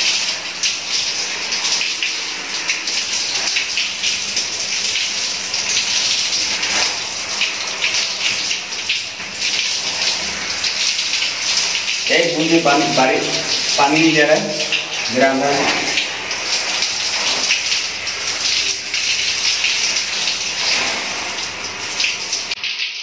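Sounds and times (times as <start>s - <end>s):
shower spray on plastic raincoat: 0.0s - 22.6s
water splashing on floor: 0.0s - 23.0s.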